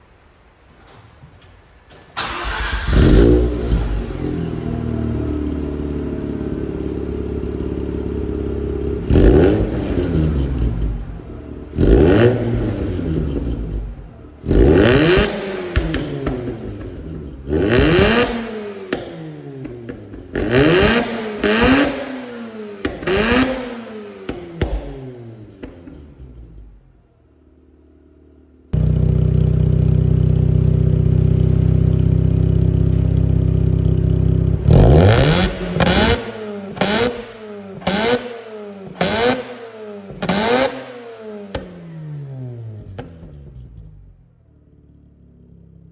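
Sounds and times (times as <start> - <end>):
rotary engine revving and idling: 2.2 - 27.0, 28.7 - 45.9.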